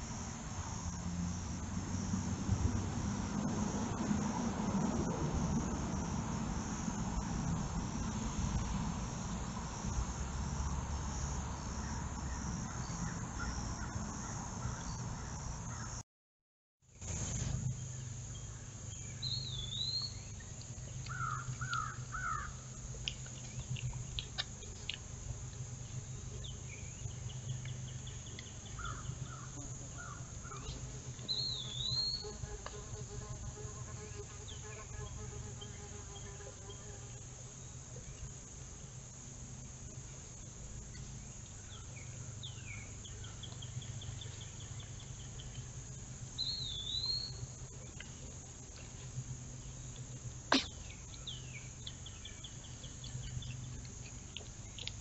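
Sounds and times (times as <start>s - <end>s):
insects chorus: 0.0s - 16.0s, 16.9s - 55.0s.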